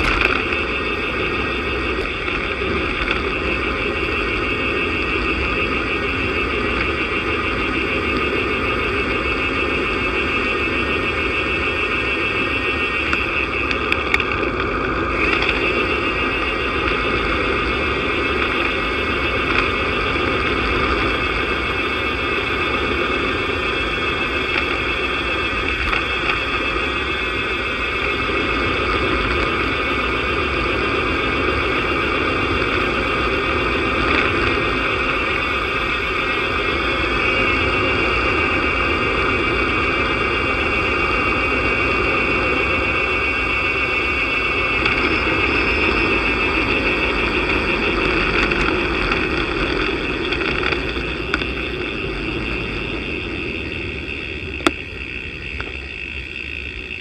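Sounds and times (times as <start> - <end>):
bike tyres rolling on road: 0.0 - 57.0
wind noise: 0.0 - 57.0.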